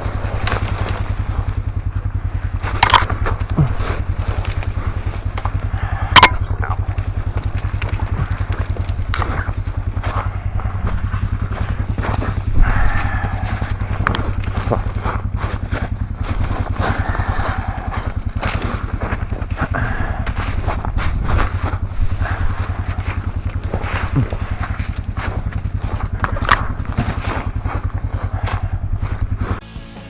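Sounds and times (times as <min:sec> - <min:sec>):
sharp cracks and crunches: 0:00.0 - 0:29.6
small engine running: 0:00.0 - 0:30.0.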